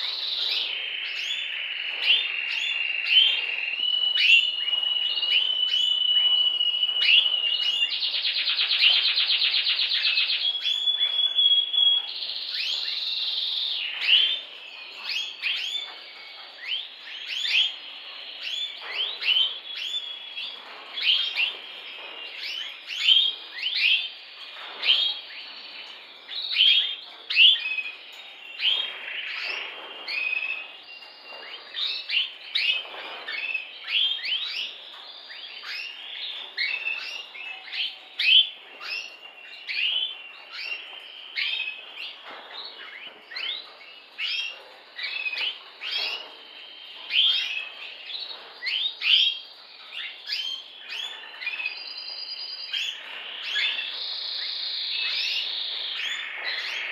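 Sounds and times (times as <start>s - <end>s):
canary singing: 0.0s - 56.9s.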